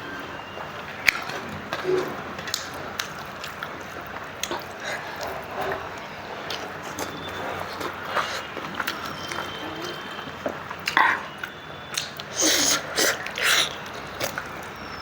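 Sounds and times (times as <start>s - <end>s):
wet squishing and smacking eating: 0.4s - 15.0s.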